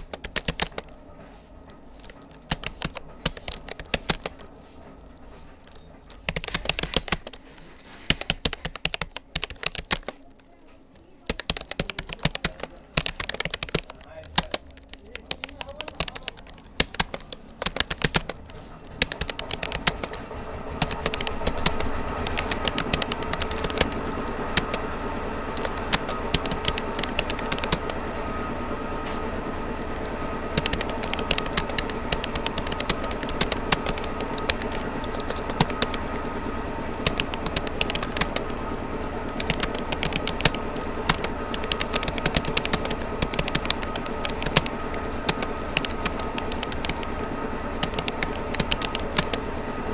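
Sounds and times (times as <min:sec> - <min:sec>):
droning background hum: 0:00.0 - 0:49.9
keyboard keys clicking: 0:00.0 - 0:49.9.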